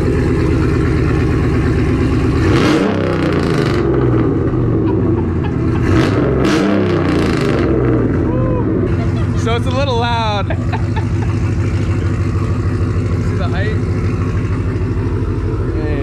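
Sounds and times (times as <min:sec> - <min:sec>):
pickup truck engine idling: 0:00.0 - 0:06.4, 0:07.7 - 0:16.0
engine revving: 0:00.0 - 0:16.0.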